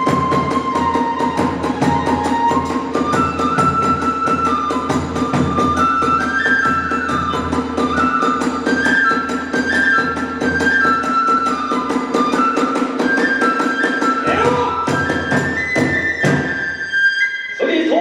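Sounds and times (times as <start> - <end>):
drum beat: 0.0 - 13.3, 14.0 - 16.6
bamboo flute melody: 0.0 - 18.0.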